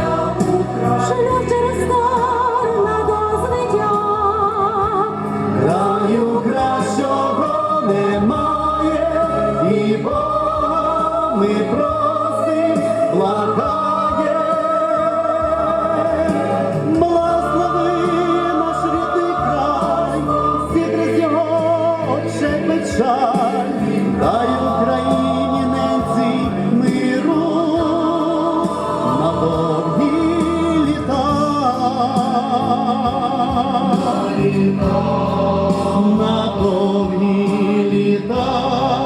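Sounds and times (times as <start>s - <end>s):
instrumental accompaniment: 0.0s - 39.0s
voices singing with vibrato: 0.0s - 39.0s.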